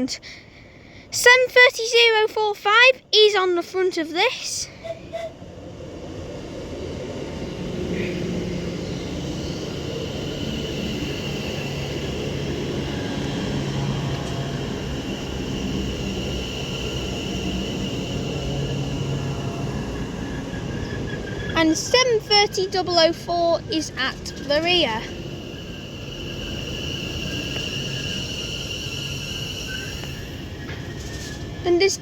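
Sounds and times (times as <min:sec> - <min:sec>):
train wheels rumbling on rail: 0:01.2 - 0:32.0.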